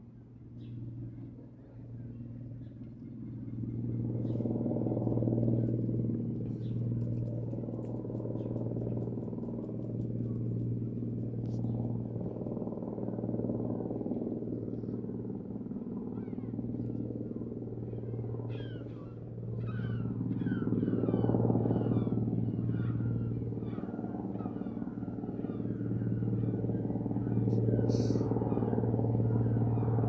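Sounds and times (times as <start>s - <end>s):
helicopter droning: 0.1s - 30.0s.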